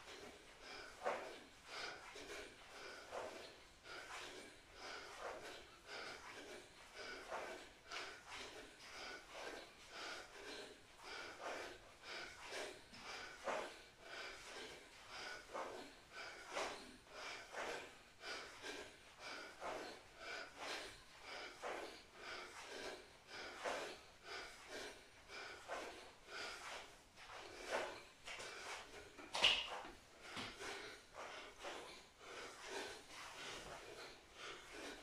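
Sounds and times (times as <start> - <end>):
person breathing hard: 0.0 - 35.0.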